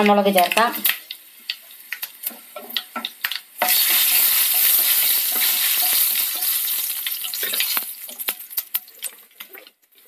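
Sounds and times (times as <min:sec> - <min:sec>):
loud sizzle of frying: 0:00.0 - 0:10.0
seeds crackling in oil: 0:00.0 - 0:10.0
spatula stirring in oil: 0:00.4 - 0:10.0.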